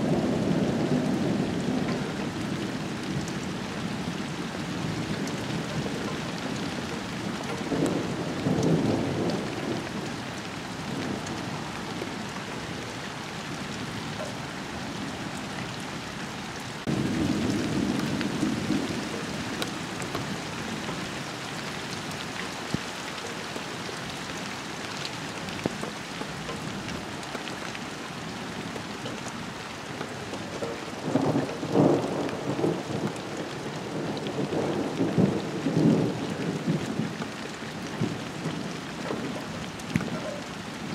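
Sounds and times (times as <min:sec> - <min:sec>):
thunder rumbling: 0:00.0 - 0:15.8, 0:16.8 - 0:27.6, 0:28.2 - 0:40.9
rain on foliage: 0:00.0 - 0:40.9.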